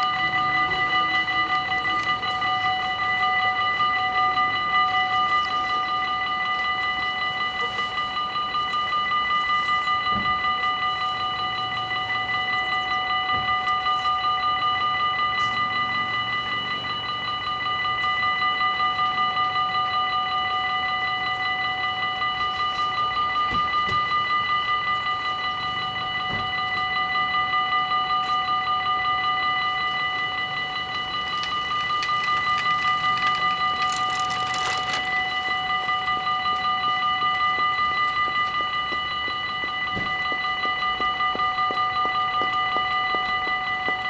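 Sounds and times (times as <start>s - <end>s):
level crossing warning bells: 0.0s - 44.0s.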